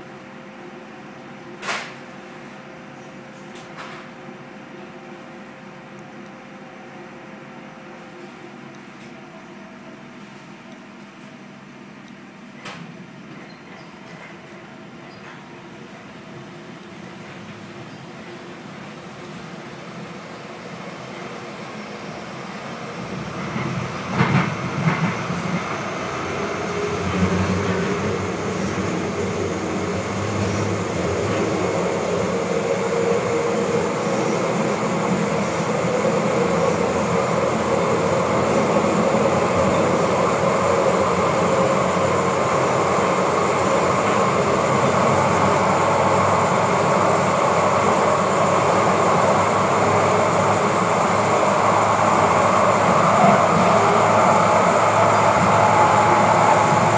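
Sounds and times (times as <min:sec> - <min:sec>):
light rail car rolling and motor: 0:00.0 - 0:56.9.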